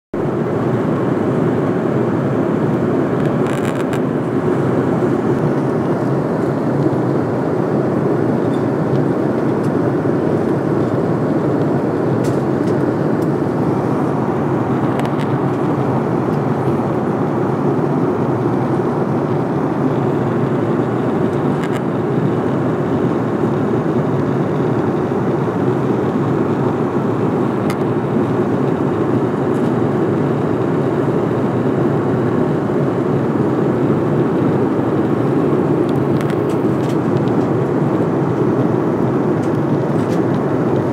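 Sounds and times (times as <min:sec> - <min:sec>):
aeroplane cabin hum: 0:00.2 - 0:40.9.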